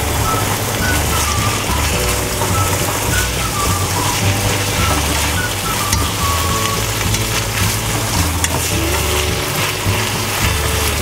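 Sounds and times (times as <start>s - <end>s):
meat sizzling in a frying pan: 0.0s - 11.0s
wooden spatula scraping a pan: 0.0s - 11.0s.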